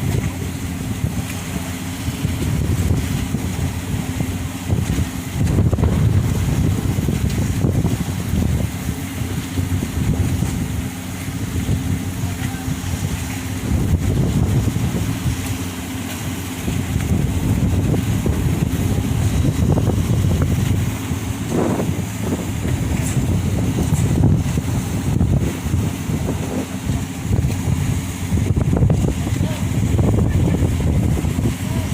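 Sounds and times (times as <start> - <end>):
ferry engines humming: 0.0 - 31.9
strong wind buffeting microphone: 0.0 - 31.9.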